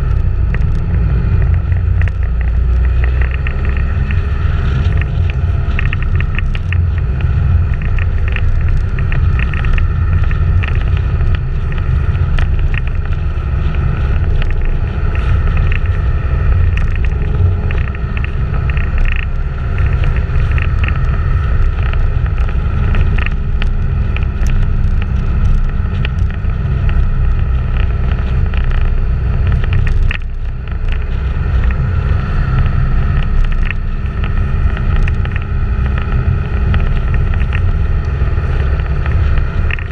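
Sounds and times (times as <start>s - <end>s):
small clicks and rattles: 0.0s - 39.9s
tyre and road noise: 0.0s - 39.9s
wind buffeting microphone: 0.0s - 39.9s.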